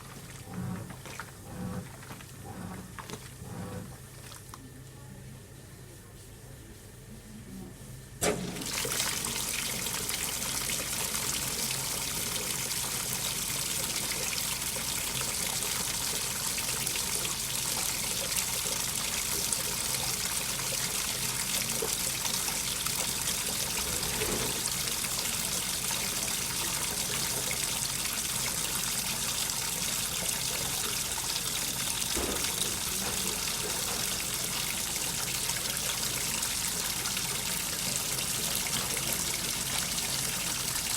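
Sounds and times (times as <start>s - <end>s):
water running through washing machine: 0.0s - 5.2s, 8.2s - 40.9s.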